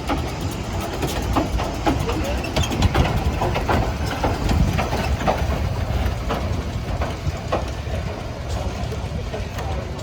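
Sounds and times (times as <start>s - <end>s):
steam locomotive rumbling: 0.0s - 10.0s.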